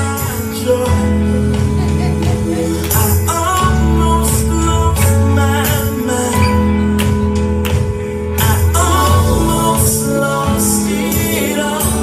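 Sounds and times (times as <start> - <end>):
person singing: 0.0 - 7.3, 8.2 - 12.0
bass and keyboard chords: 0.0 - 12.0.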